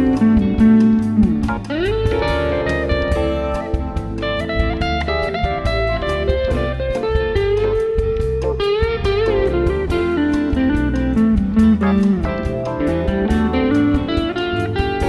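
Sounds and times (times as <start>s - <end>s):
electric bass: 0.0s - 15.0s
electric guitar lead melody: 0.0s - 15.0s
steady beat: 0.0s - 15.0s.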